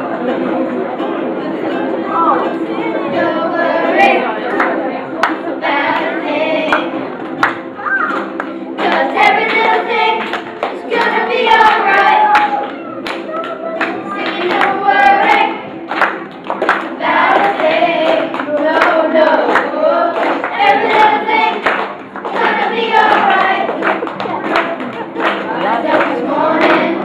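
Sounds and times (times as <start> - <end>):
children singing: 2.1 - 7.0, 8.8 - 15.7, 16.9 - 27.0
hand claps: 4.5 - 6.1, 6.7 - 27.0.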